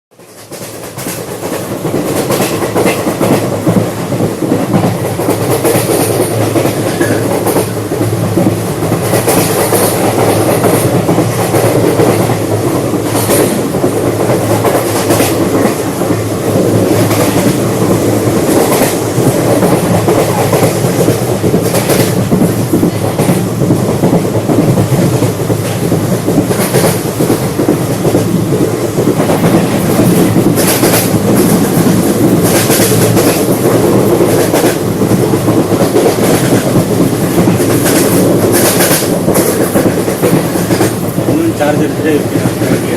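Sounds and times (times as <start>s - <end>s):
train coach rumbling: 0.1s - 42.9s.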